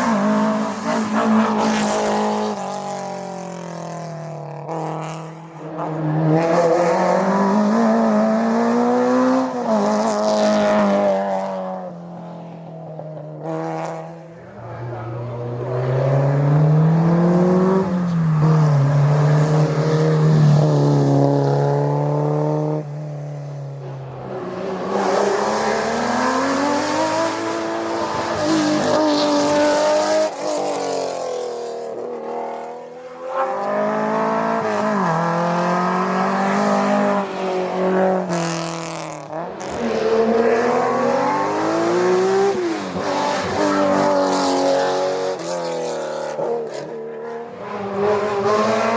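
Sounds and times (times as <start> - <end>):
racing car engines revving: 0.0 - 48.9.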